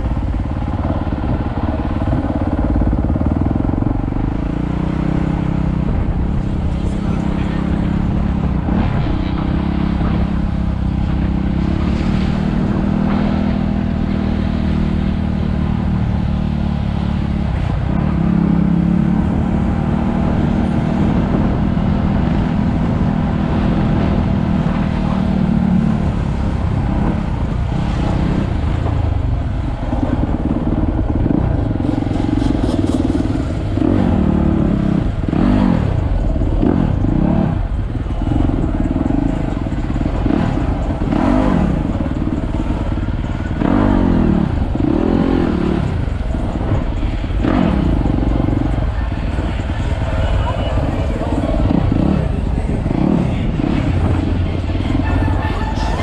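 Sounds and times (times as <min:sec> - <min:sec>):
motorcycle engine revving: 0:00.0 - 0:56.0
motorcycle engine running: 0:00.0 - 0:56.0.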